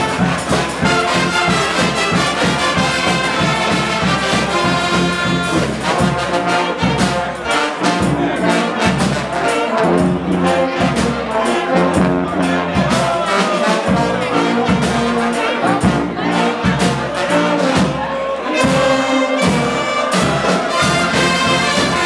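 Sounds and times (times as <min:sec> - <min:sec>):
bass drum beat: 0:00.0 - 0:22.0
brass band playing: 0:00.0 - 0:22.0.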